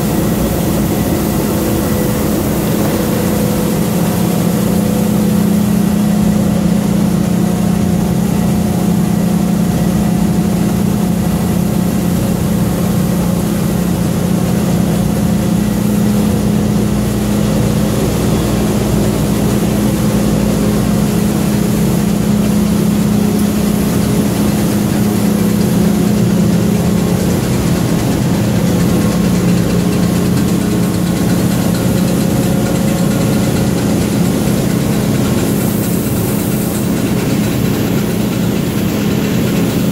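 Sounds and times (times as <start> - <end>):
printing press droning: 0.0 - 39.9.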